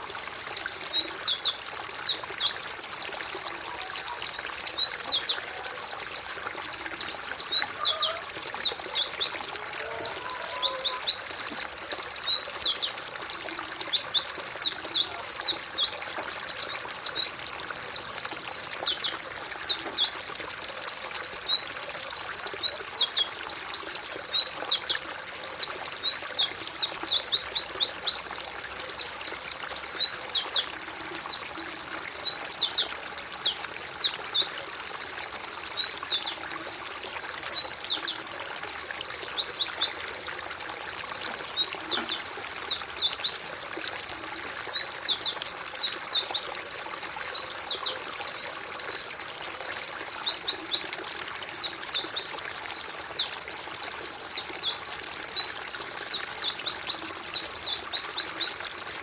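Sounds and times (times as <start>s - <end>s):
flock of small birds chattering: 0.0s - 59.0s.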